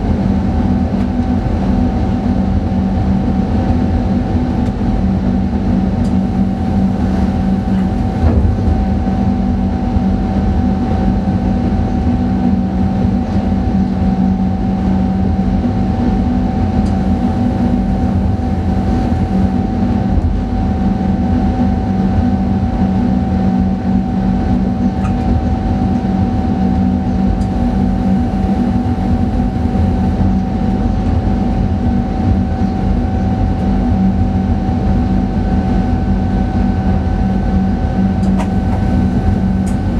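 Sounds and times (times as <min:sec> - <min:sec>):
electric hum and whine: 0:00.0 - 0:39.9
train rumble: 0:00.0 - 0:39.9.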